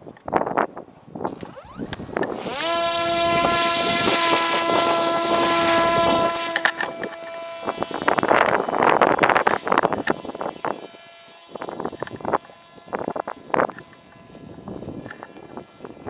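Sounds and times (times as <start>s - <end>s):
wind buffeting microphone: 0.2s - 16.0s
drone propeller motor whine: 1.3s - 16.0s.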